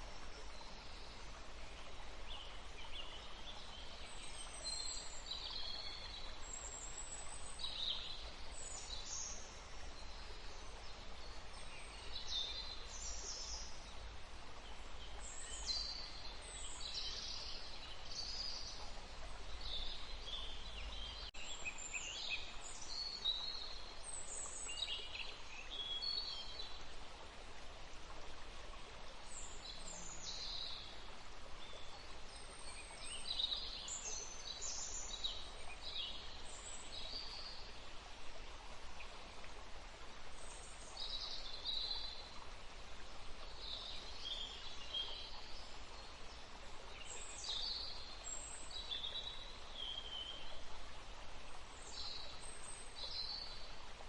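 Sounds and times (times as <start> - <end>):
forest stream running: 0.0 - 54.0.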